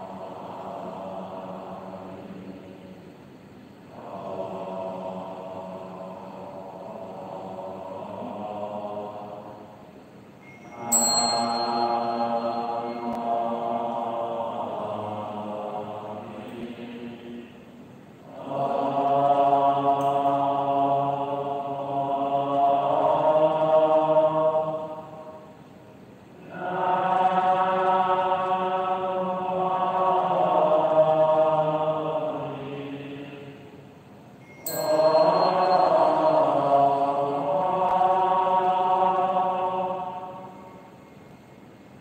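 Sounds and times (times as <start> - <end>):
slow liturgical chanting: 0.0 - 42.0.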